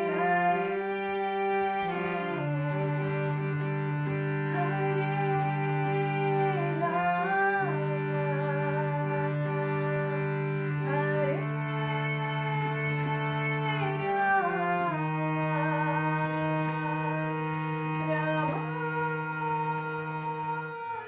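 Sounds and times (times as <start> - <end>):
harmonium chords: 0.0 - 21.0
woman singing devotional melody: 0.0 - 21.0.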